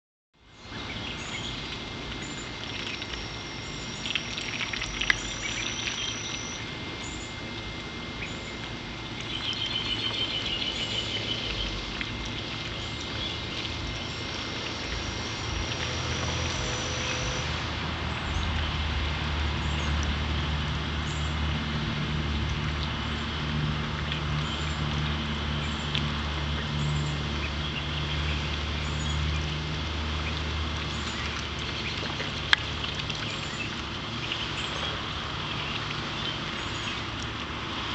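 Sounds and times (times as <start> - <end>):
low steady hum: 0.4 - 37.9
outdoor background noise: 0.4 - 37.9
ducklings peeping: 0.7 - 7.4, 8.2 - 18.8, 24.0 - 37.4.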